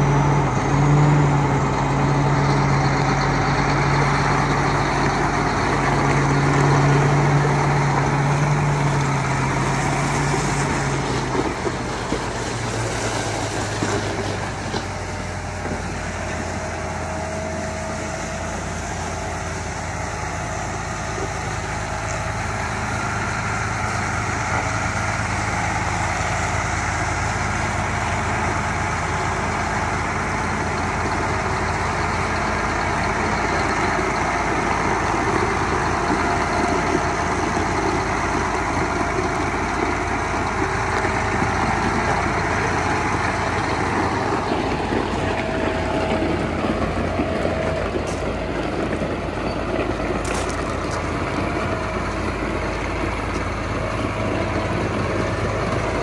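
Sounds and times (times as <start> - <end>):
tractor diesel engine running: 0.0 - 56.0
tyres on gravel: 0.0 - 56.0.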